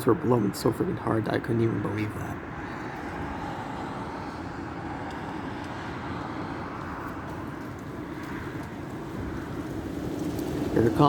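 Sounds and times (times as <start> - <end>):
strong gusty wind: 0.0 - 11.0.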